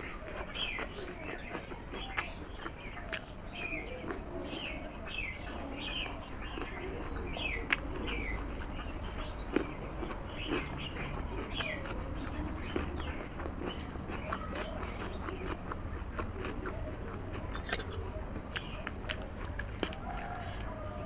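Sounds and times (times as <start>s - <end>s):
birds chirping: 0.0s - 21.0s
chewing crispy fried food: 0.0s - 21.0s
mouth clicks: 0.3s - 20.8s.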